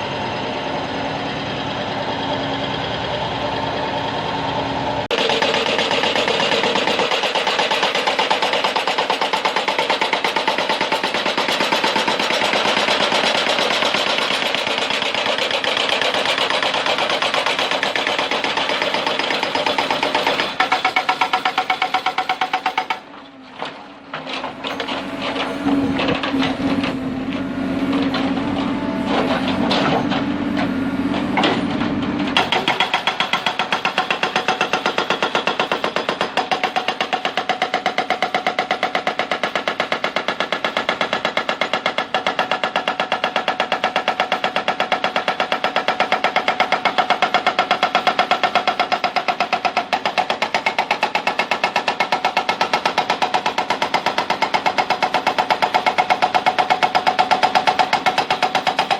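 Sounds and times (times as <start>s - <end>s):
backhoe diesel engine: 0.0s - 58.9s
hydraulic breaker hammering: 5.1s - 58.9s.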